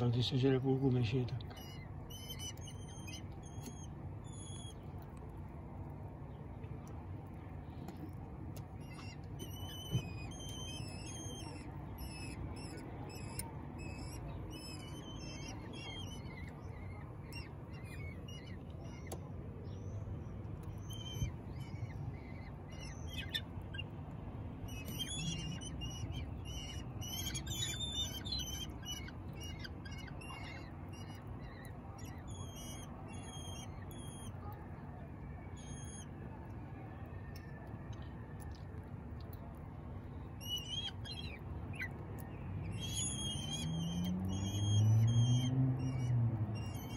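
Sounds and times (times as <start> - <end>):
nestlings begging calls: 0.0 - 6.4, 8.1 - 19.2, 19.8 - 34.6, 35.4 - 36.1, 40.3 - 46.9
steady low hum: 0.0 - 46.9.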